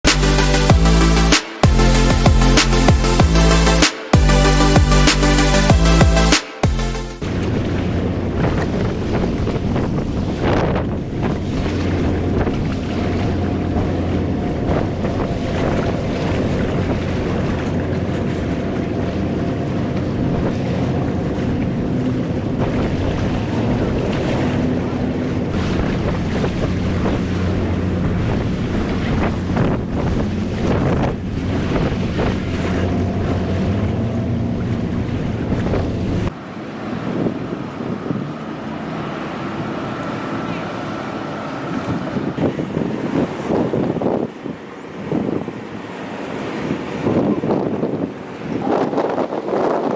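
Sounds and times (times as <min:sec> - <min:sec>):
boat engine droning: 0:00.0 - 0:49.9
water noise: 0:00.0 - 0:49.9
wind on microphone: 0:07.2 - 0:39.7, 0:41.6 - 0:49.9.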